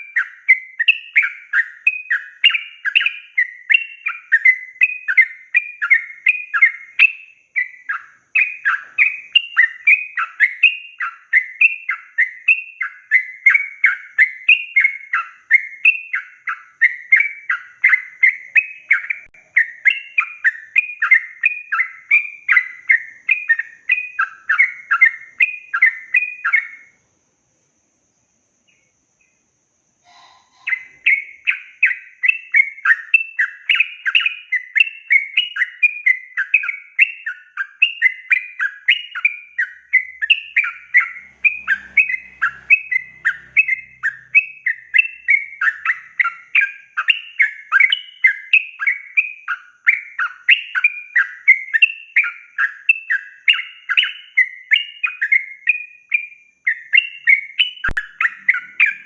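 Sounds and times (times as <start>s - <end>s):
bird singing chirping notes: 0.0s - 27.0s, 30.0s - 59.0s.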